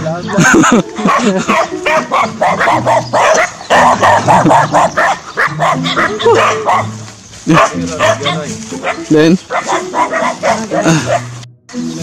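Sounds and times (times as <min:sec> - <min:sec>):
dogs barking and yipping: 0:00.0 - 0:11.5.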